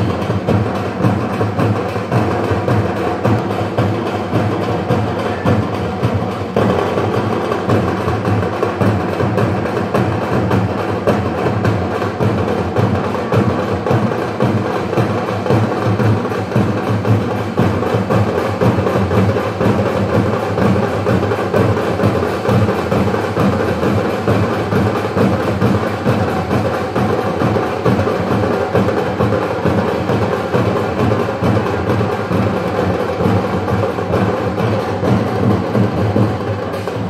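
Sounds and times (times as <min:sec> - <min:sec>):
drums in fast driving rhythm: 0:00.0 - 0:37.0.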